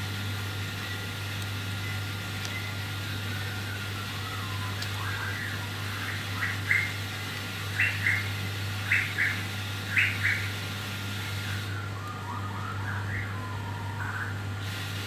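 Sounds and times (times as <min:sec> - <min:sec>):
steady low hum: 0:00.0 - 0:15.0
bird calling: 0:01.7 - 0:14.6.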